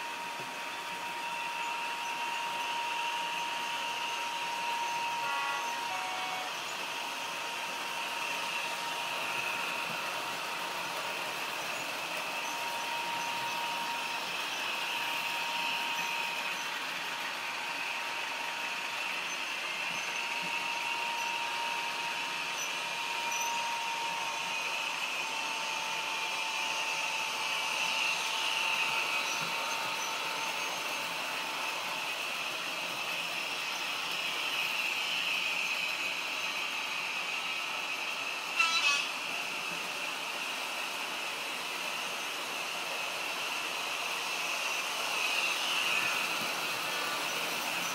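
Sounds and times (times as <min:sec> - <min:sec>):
model locomotive engine sound: 0:00.0 - 0:47.9
model train running noise: 0:00.0 - 0:47.9.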